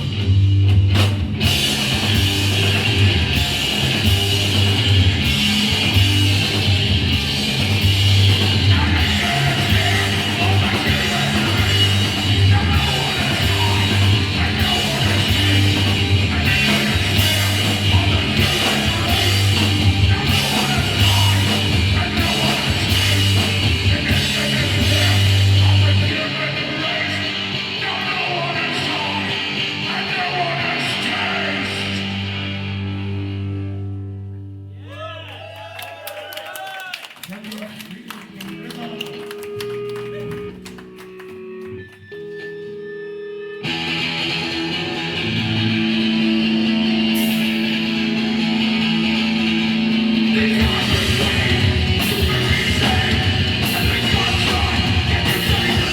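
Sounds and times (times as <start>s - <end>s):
punk band playing live: 0.0s - 34.3s, 37.4s - 55.9s.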